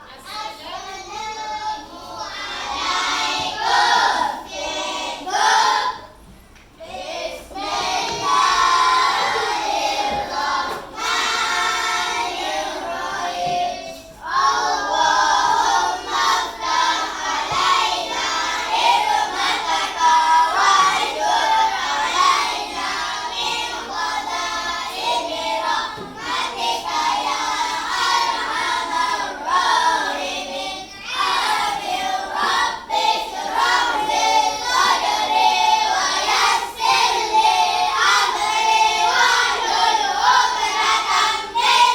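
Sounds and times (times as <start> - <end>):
children singing in unison: 0.8 - 41.9.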